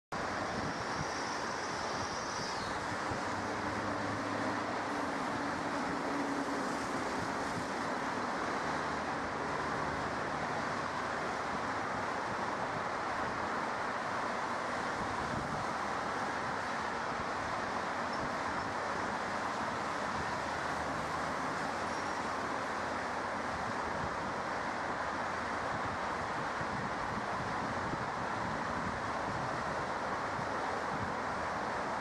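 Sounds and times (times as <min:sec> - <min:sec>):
wind on microphone: 0:00.2 - 0:24.5, 0:25.6 - 0:32.0.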